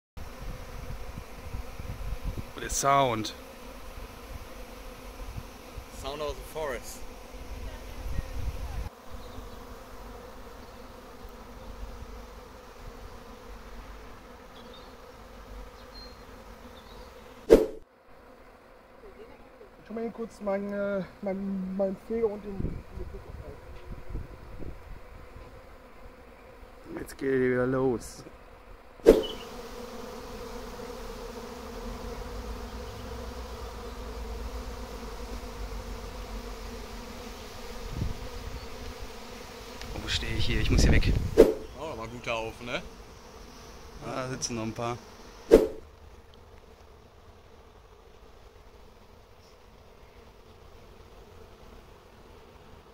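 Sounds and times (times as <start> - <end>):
bee swarm buzzing: 0.2 - 52.9.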